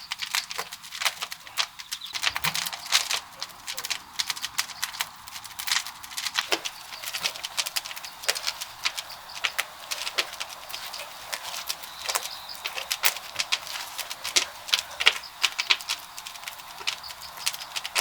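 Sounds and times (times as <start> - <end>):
steady hiss: 0.0 - 18.0
wood fire crackling: 0.0 - 18.0.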